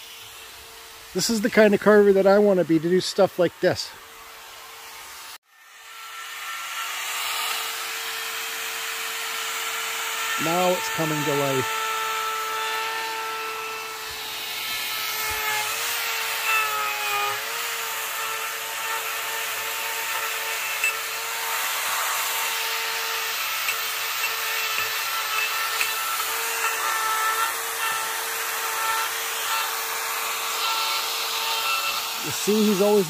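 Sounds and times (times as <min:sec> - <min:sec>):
power carving tool whine: 0:00.0 - 0:33.0.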